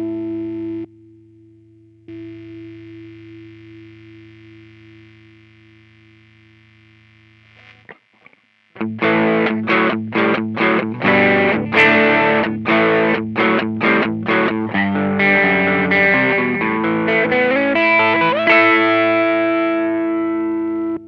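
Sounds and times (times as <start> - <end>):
distorted electric guitar chords: 2.1 - 21.0.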